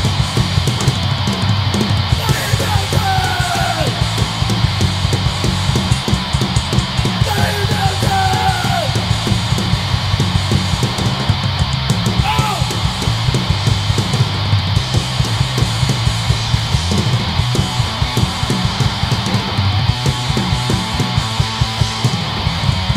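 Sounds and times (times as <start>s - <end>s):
bass guitar: 0.0s - 22.9s
distorted electric guitar: 0.0s - 22.9s
drum kit fast beat: 0.0s - 22.9s.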